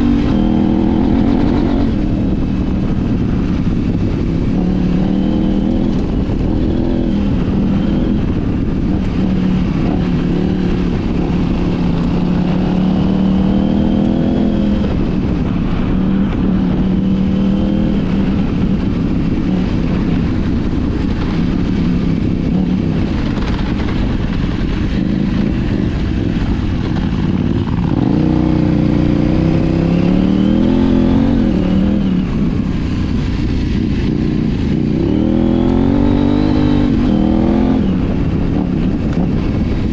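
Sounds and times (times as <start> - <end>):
motorcycle engine revving: 0.0 - 39.9
wind rushing: 0.0 - 39.9.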